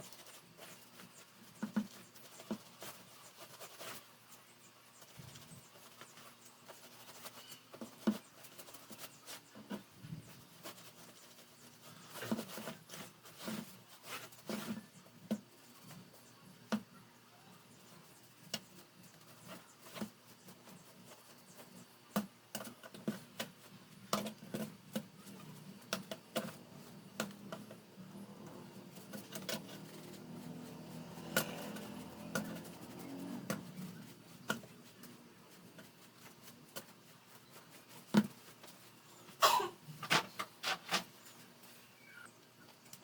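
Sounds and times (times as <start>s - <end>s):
fan parts clicking and tapping: 0.0s - 17.0s, 17.7s - 41.8s
soft steady noise: 0.0s - 43.0s.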